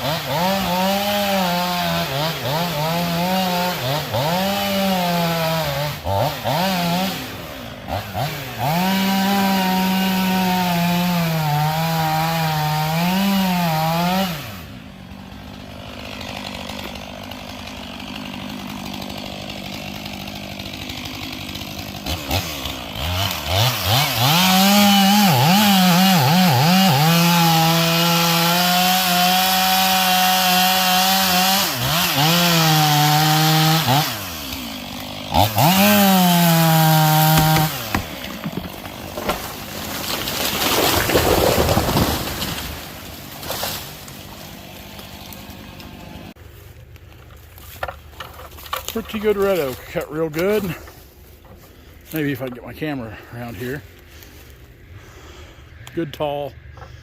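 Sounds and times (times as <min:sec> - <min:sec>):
chainsaw cutting: 0:00.0 - 0:57.0.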